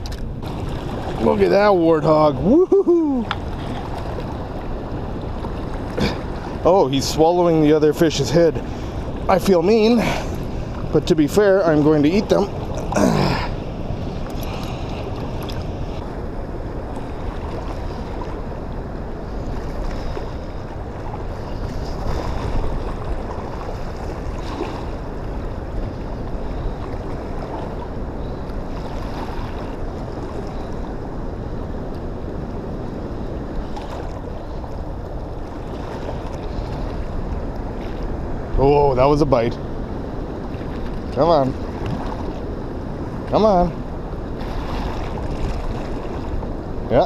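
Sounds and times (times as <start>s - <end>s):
water rushing: 0.0s - 47.0s
wind buffeting microphone: 0.0s - 47.0s.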